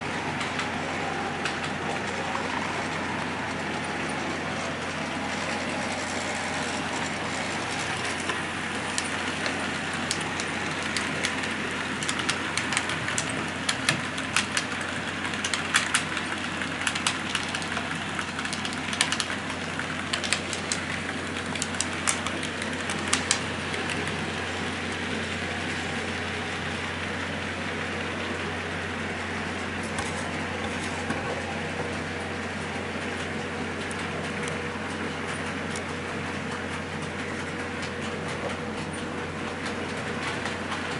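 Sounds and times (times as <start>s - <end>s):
model train humming: 0.0s - 40.9s
wheels clicking on track: 0.0s - 40.9s.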